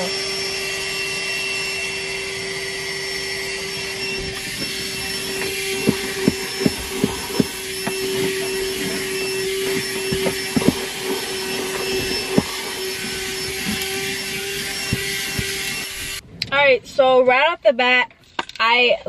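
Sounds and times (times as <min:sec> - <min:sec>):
handheld vacuum running: 0:00.0 - 0:16.2.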